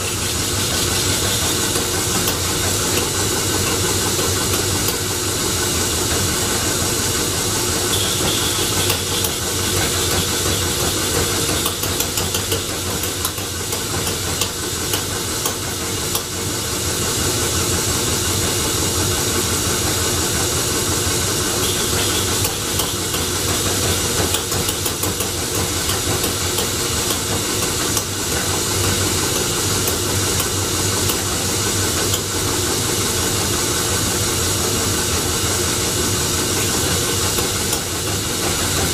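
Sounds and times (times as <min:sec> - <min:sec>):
electric motor driving belt: 0:00.0 - 0:38.9
flywheel engine turning over with hiss: 0:00.0 - 0:38.9.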